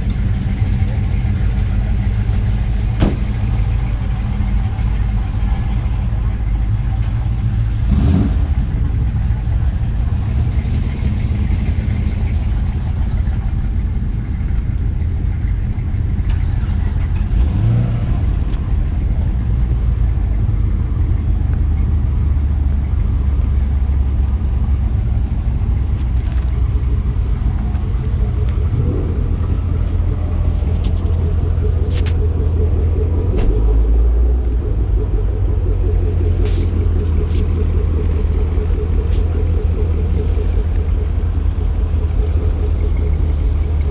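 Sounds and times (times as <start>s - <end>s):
car engines rumbling: 0.0s - 43.9s
engines revving: 0.0s - 43.9s.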